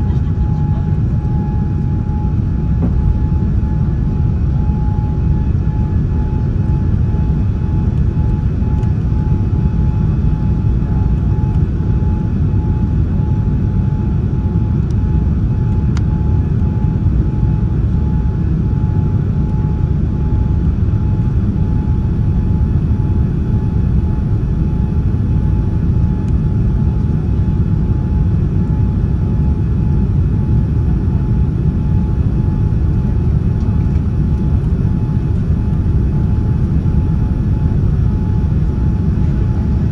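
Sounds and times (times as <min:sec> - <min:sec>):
jet engine and airflow roar: 0:00.0 - 0:39.9.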